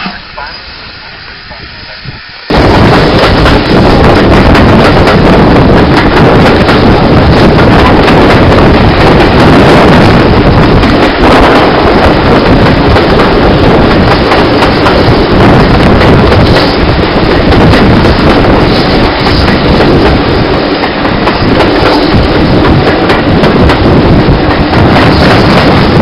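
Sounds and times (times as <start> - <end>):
train running noise: 0.0 - 26.0
wind buffeting microphone: 1.4 - 26.0.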